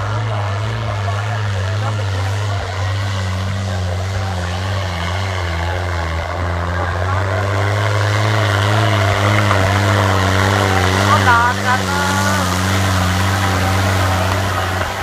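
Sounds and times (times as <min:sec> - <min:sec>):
tractor engines labouring: 0:00.0 - 0:15.0.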